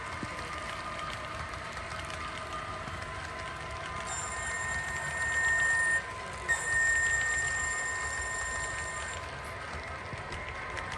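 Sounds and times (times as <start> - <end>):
model train running noise: 0.0 - 10.9.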